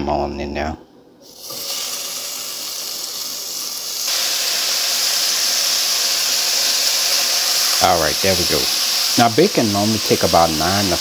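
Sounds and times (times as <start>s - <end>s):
bacon sizzling in a saucepan: 1.2s - 11.0s.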